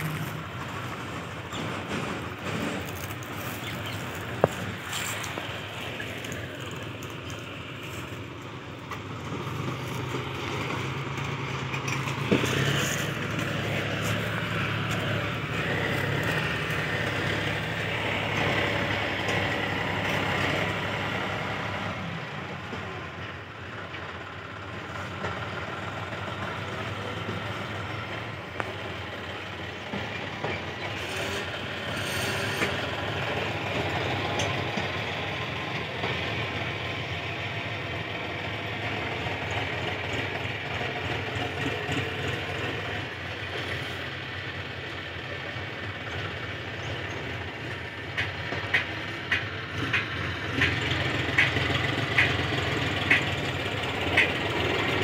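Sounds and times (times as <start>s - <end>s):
tractor engines droning: 0.0s - 55.0s.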